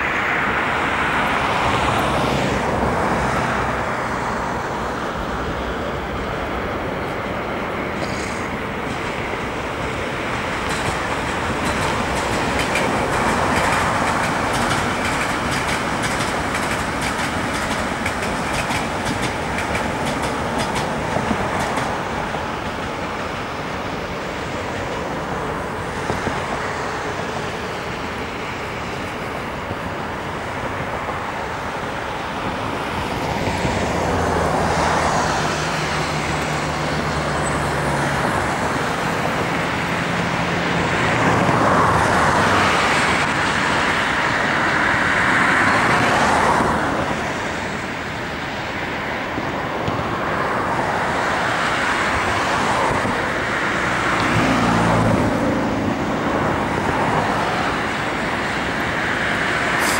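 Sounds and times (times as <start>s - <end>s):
heavy vehicle engine hum: 0.0s - 59.9s
passing vehicles rushing: 0.0s - 59.9s.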